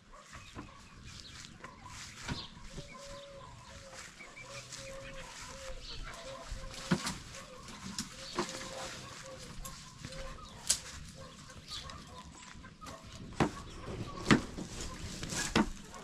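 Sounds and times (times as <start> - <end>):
chickens clucking: 0.1 - 16.0.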